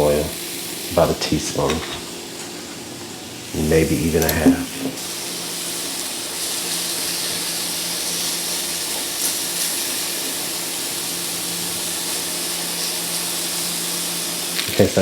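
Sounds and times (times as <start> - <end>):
peppers sizzling in oil: 0.0 - 2.7, 3.4 - 15.0.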